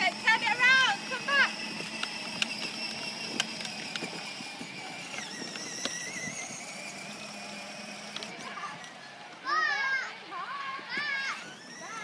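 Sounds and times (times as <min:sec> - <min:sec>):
toy car electric motor whining: 0:00.0 - 0:12.0.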